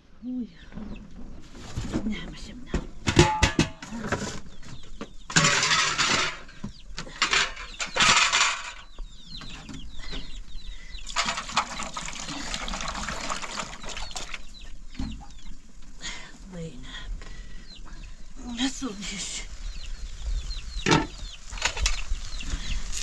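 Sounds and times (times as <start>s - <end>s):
chickens clucking: 0.6s - 16.4s, 17.0s - 23.0s.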